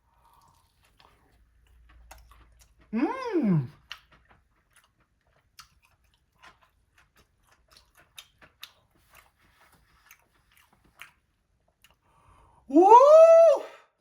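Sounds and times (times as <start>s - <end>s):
person chewing crispy food: 0.0s - 12.6s.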